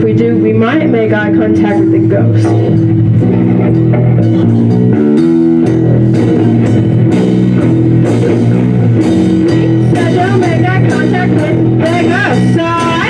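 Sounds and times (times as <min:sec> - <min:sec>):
bass guitar: 0:00.0 - 0:13.0
drum kit beat: 0:00.0 - 0:13.0
electric guitar: 0:00.0 - 0:13.0.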